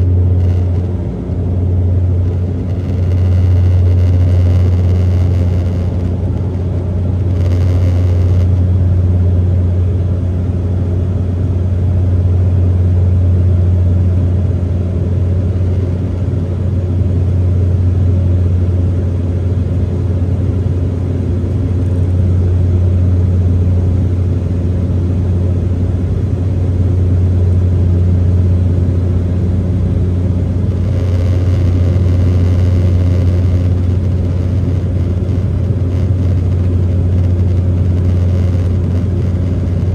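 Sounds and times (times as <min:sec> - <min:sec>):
airflow rumble: 0:00.0 - 0:17.8, 0:21.0 - 0:39.9
aircraft engines droning: 0:00.0 - 0:39.9.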